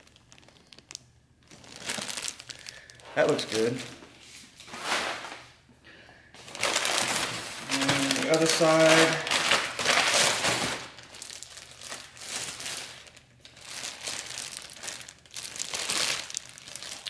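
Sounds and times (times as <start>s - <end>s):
plastic bag crinkling: 0.0s - 4.0s, 6.4s - 17.0s
packing paper rustling: 0.0s - 5.6s, 6.4s - 17.0s.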